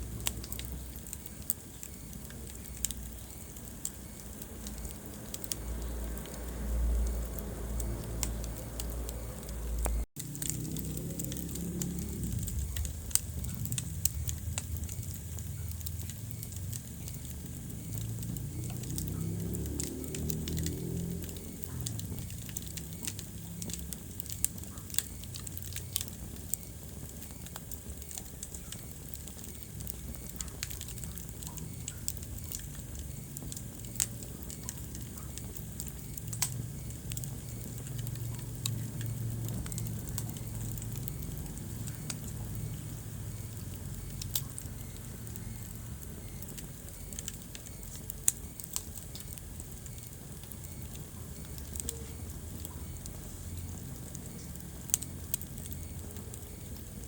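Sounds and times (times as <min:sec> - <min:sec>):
fire crackling: 0:00.0 - 0:57.0
low rumble of flames: 0:00.0 - 0:57.0
sharp pops of fire: 0:00.0 - 0:57.0.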